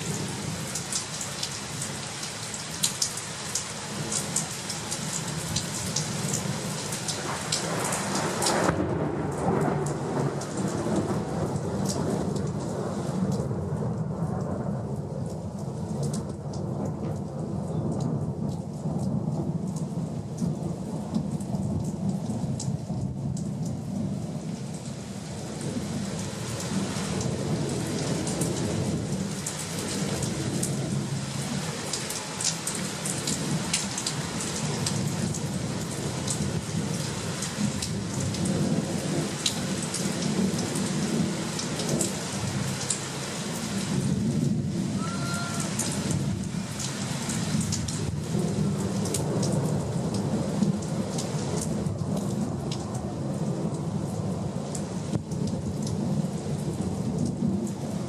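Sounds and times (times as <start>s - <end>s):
heavy rain pattering: 0.0s - 58.0s
thunder rumbling: 3.9s - 24.7s, 25.3s - 54.6s.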